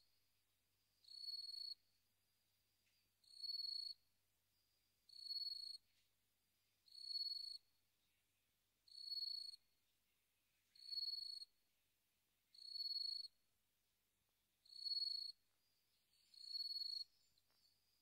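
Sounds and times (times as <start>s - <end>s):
cricket chirping: 0.0s - 11.6s, 12.5s - 13.4s, 14.5s - 18.0s.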